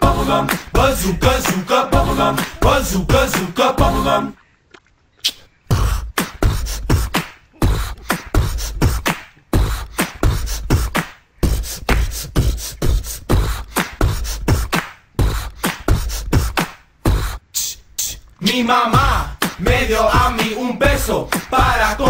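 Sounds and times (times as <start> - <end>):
beatboxed hip-hop beat: 0.0 - 4.1, 5.2 - 22.0.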